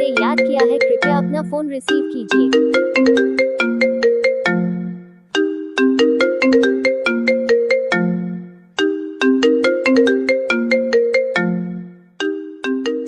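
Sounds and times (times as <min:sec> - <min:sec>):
mobile phone ringtone melody: 0:00.0 - 0:13.0.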